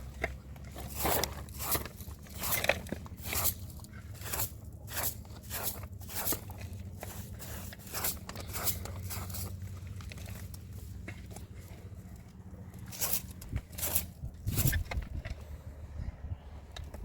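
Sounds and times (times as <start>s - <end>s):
repeated crunching: 0.0s - 15.5s
steady low hum: 0.0s - 17.0s.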